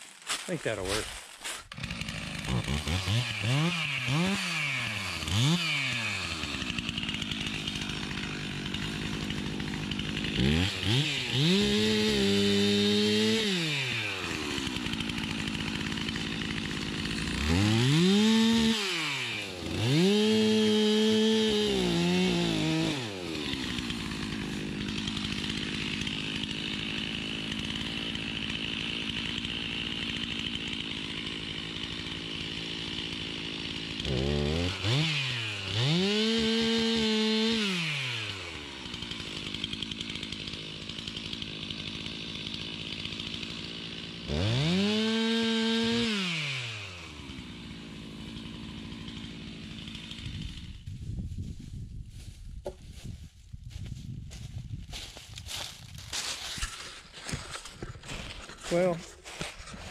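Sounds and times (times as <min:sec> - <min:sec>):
chainsaw revving and idling: 0:00.0 - 0:51.1, 0:54.4 - 0:59.9.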